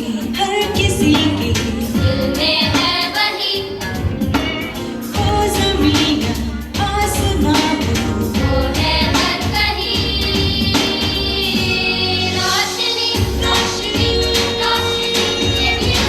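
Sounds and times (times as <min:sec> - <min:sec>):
song with singing over a beat: 0:00.0 - 0:16.0.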